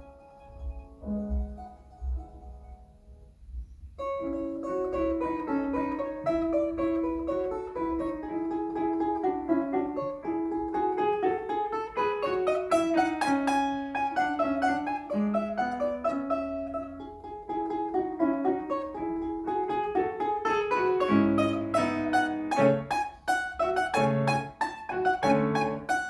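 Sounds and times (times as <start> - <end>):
piano accompaniment: 0.0 - 26.0
plucked string instrument melody: 0.0 - 26.0.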